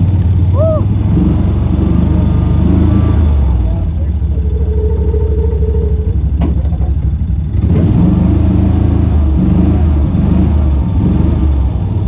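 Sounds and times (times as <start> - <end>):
tractor engine chugging and revving: 0.0 - 12.0.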